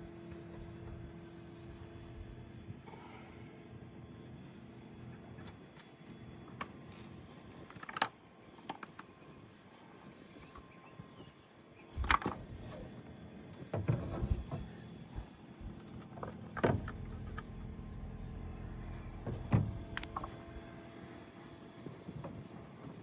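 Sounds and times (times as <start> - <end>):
steady low hum: 0.0 - 7.6, 12.0 - 23.0.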